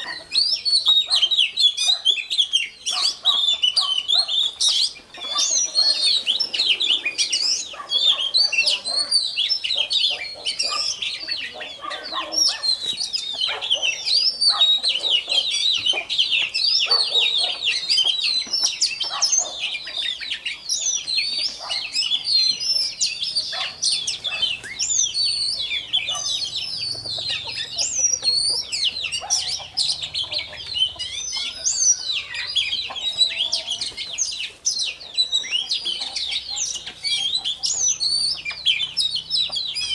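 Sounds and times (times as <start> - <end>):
bird singing whistles and chirps: 0.0 - 39.9
chickens clucking: 0.0 - 39.9.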